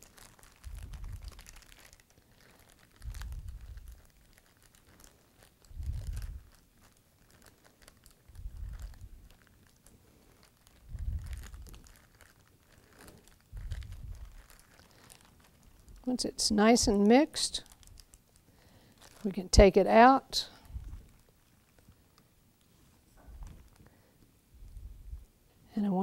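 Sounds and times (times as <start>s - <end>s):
plastic bag crinkling: 0.0s - 22.4s, 23.0s - 24.2s.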